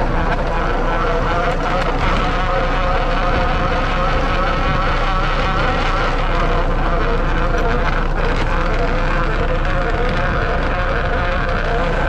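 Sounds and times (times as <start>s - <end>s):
boat engine and hauler drone: 0.0s - 12.0s.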